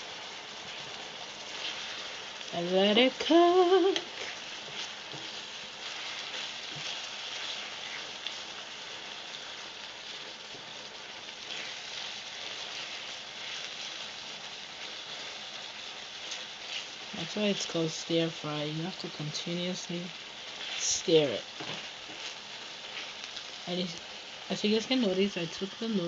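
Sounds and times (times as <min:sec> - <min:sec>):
stir-fry sizzling in oil: 0:00.0 - 0:26.0.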